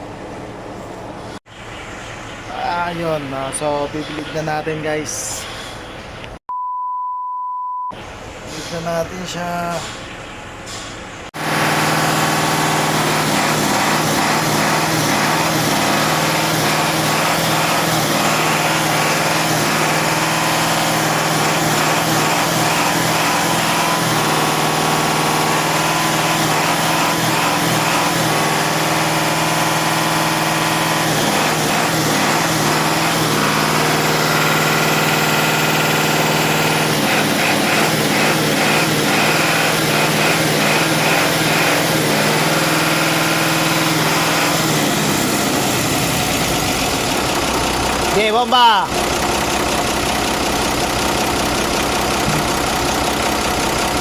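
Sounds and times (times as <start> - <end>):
engine running: 8.0 - 54.0.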